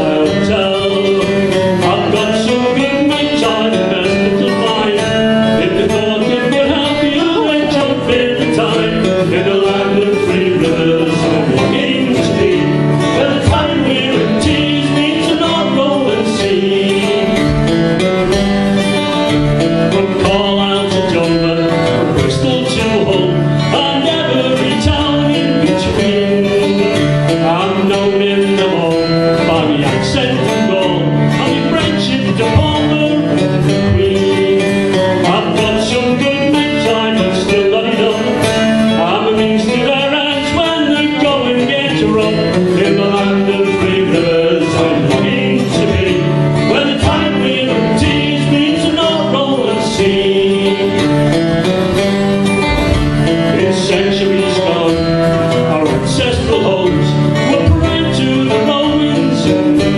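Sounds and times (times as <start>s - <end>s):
acoustic guitars playing: 0.0s - 59.9s
person singing: 0.0s - 59.9s.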